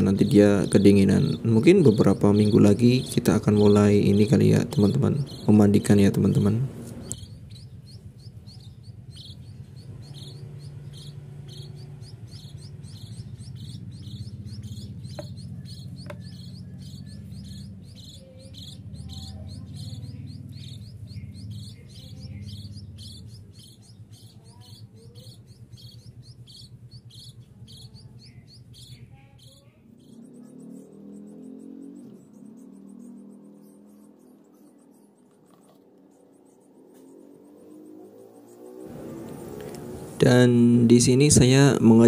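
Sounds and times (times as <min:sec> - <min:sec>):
low rumble: 0:00.0 - 0:35.2
chicks chirping: 0:00.0 - 0:42.0.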